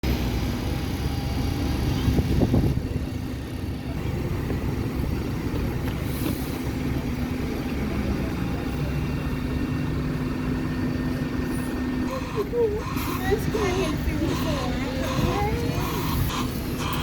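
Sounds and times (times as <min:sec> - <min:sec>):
large vehicle engine rumbling: 0:00.0 - 0:17.0.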